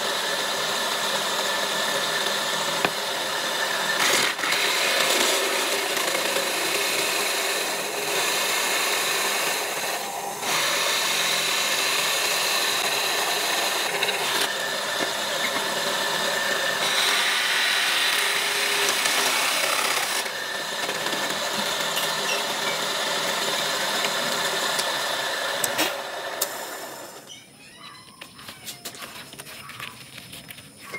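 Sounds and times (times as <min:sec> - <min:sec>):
drill press motor hum: 0:00.0 - 0:27.3
hole saw cutting wood: 0:00.0 - 0:27.3.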